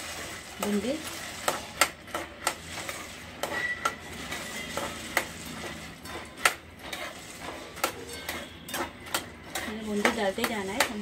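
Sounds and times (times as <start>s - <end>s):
metal spoon scraping metal pot: 0.0s - 11.0s.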